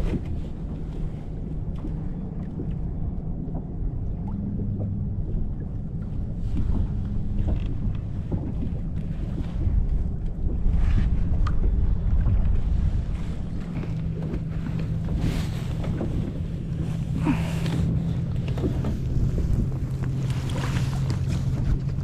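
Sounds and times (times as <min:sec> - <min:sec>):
water lapping around hull: 0:00.0 - 0:22.0
wind buffeting microphone: 0:00.0 - 0:22.0.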